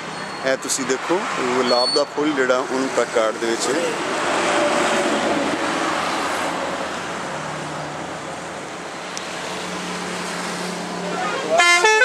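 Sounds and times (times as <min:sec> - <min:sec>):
passing vehicle: 0:00.0 - 0:12.0.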